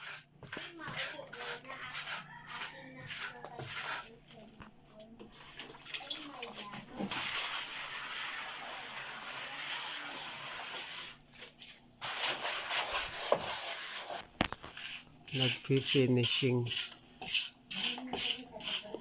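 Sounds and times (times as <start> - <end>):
sand and cement scraping: 0.0 - 4.2, 6.9 - 19.0.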